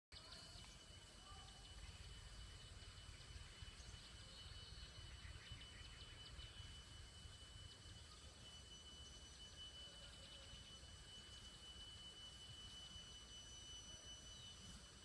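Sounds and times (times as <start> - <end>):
faint chirps: 0.1 - 15.0
high insect drone: 0.2 - 15.0.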